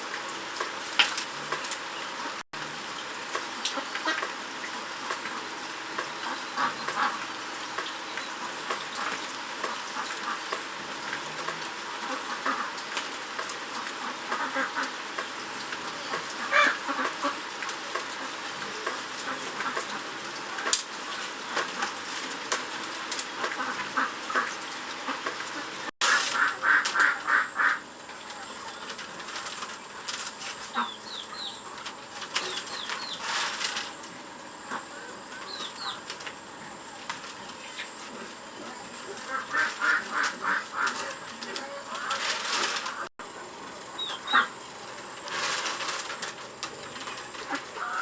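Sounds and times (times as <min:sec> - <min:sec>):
rain hissing: 0:00.0 - 0:48.0.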